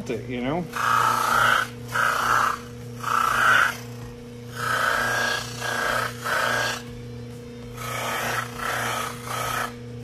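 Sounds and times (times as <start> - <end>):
electric motor humming: 0.0 - 10.0
plastic rasping on buffing wheel: 0.7 - 6.9, 7.7 - 9.8.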